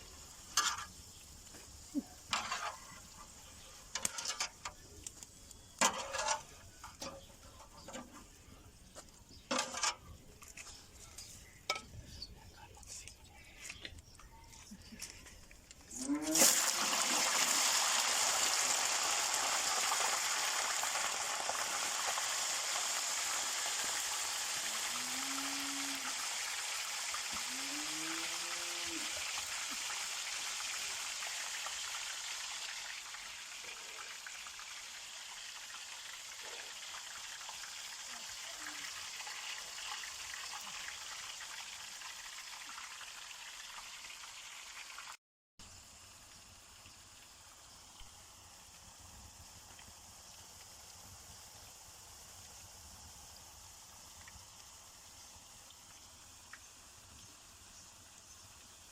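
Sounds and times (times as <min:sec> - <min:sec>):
potatoes sizzling in hot oil: 0:00.0 - 0:10.1, 0:16.0 - 0:58.9.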